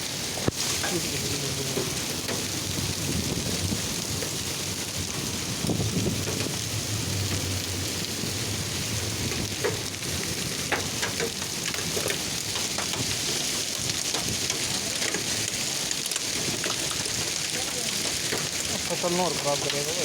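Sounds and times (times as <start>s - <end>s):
hailstones striking: 0.0s - 20.0s
rain and hail hissing: 0.0s - 20.0s.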